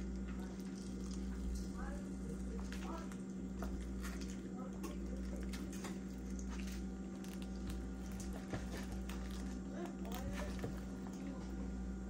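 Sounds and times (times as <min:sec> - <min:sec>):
wet squishing of fish skin: 0:00.0 - 0:01.5, 0:02.3 - 0:10.8
steady low hum: 0:00.0 - 0:12.0.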